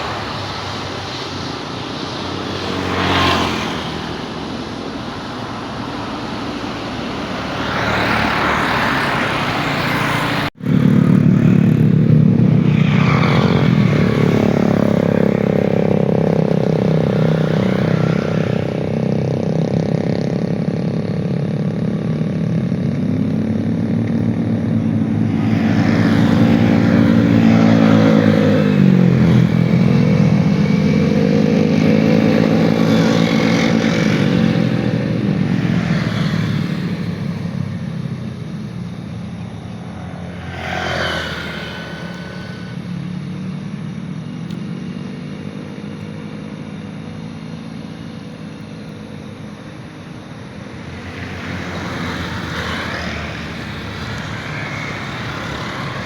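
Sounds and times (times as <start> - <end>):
droning engine hum: 0.0 - 56.0
loud engine roar: 0.0 - 56.0.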